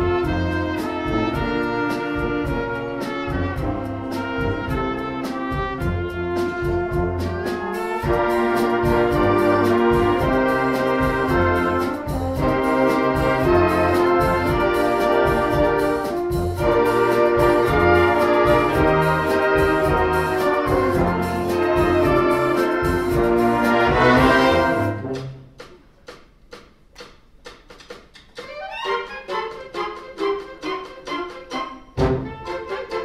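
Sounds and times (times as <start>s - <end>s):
concert wind band playing: 0.0s - 25.6s, 28.6s - 33.0s.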